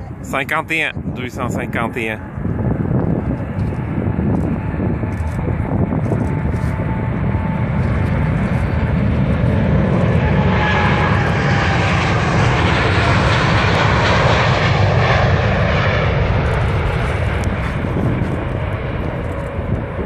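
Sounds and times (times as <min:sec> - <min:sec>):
faint jet engine whine: 0:00.0 - 0:20.0
jet engine roar at takeoff: 0:00.0 - 0:20.0.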